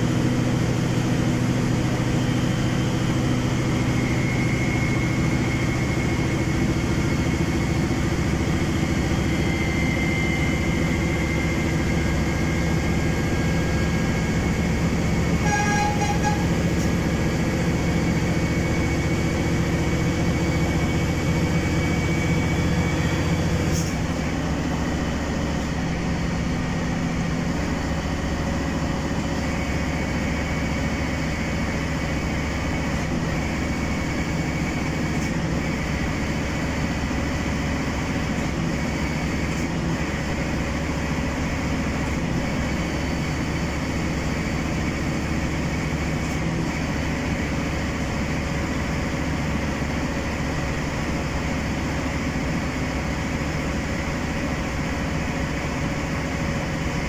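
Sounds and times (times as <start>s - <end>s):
train rolling on track: 0.0s - 57.0s.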